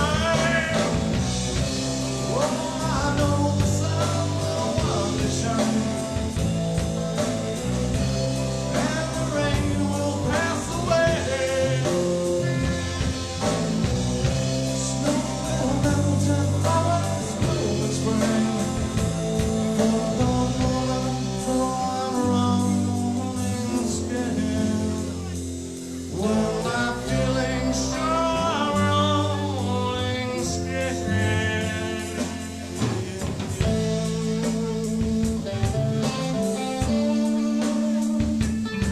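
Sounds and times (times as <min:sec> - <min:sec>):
electric guitar: 0:00.0 - 0:38.9
low bass line: 0:00.0 - 0:38.9
person singing: 0:00.0 - 0:38.9.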